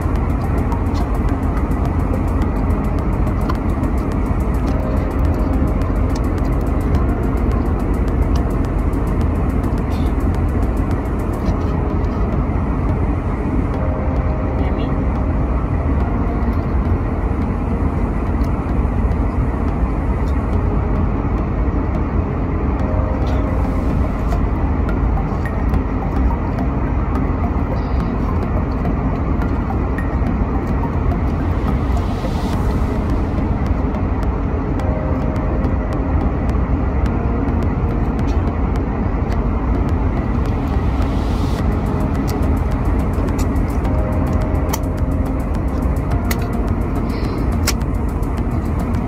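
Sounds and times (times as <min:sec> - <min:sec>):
airliner cabin rumble: 0:00.0 - 0:49.0.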